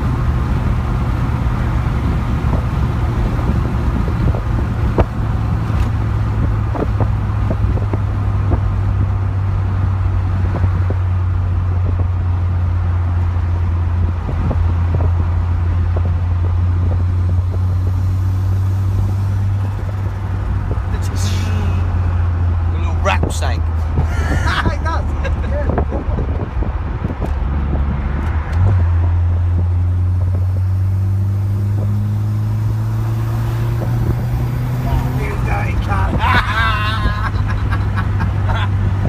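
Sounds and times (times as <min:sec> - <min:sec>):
car engine droning: 0:00.0 - 0:39.0
road noise: 0:00.0 - 0:39.0.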